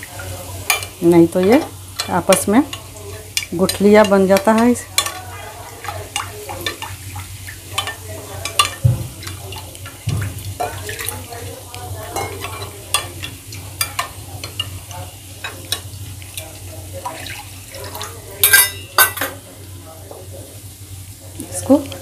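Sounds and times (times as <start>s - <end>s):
soft stirring of slurry: 0.0s - 22.0s.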